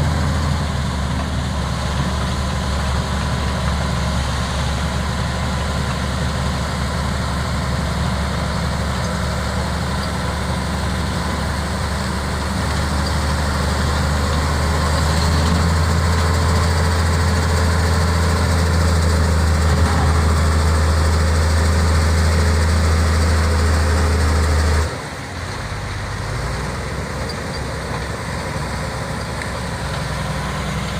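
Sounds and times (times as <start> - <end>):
bulldozer diesel engine droning: 0.0 - 30.9.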